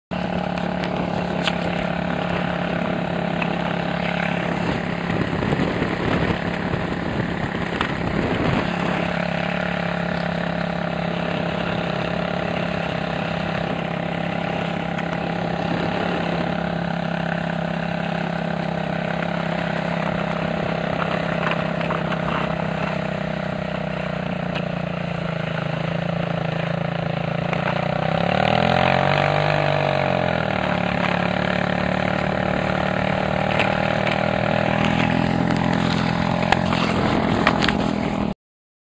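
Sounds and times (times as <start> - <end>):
quad bike engine running: 0.1 - 38.4.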